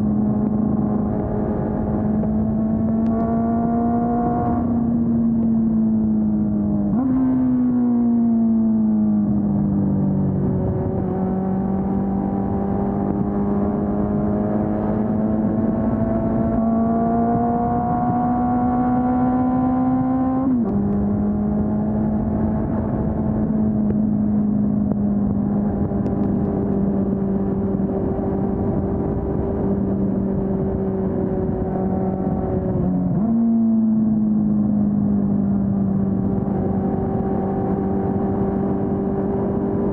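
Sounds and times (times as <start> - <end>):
motorcycle engine revving: 0.0 - 8.7, 9.4 - 39.9.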